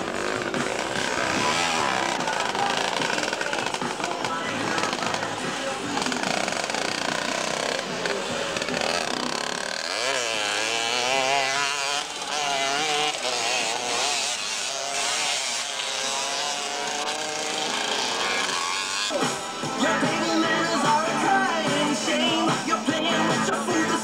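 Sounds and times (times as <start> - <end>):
motocross motorcycle engines revving: 0.0 - 24.0.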